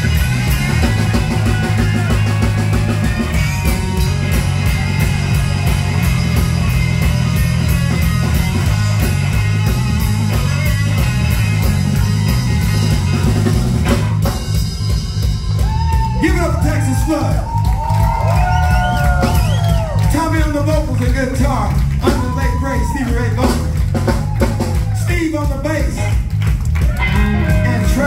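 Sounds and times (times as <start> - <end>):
electric guitars: 0.0 - 25.0, 25.6 - 28.0
drum kit beat: 0.0 - 28.0
electric bass: 0.0 - 28.0
electric blues band playing: 0.0 - 28.0.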